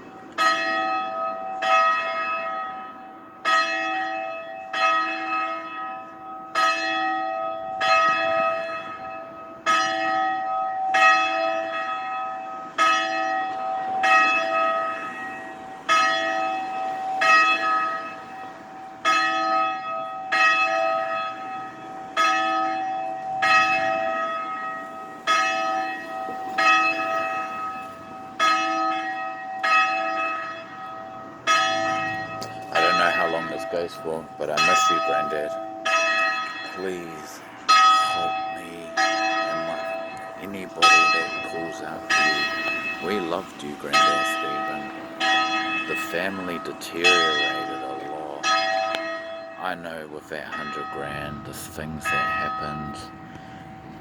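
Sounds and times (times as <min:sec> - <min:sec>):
church bell ringing: 0:00.0 - 0:54.0.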